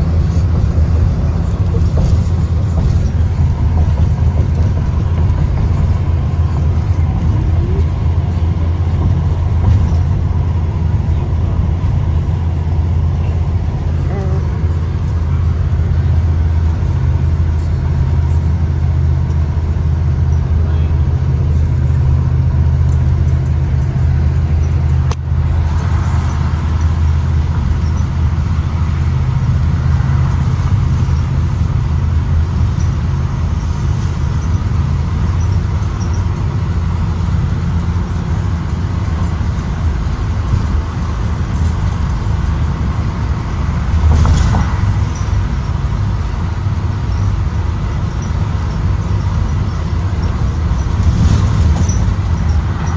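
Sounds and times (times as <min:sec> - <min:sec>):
bus engine and road drone: 0:00.0 - 0:52.9.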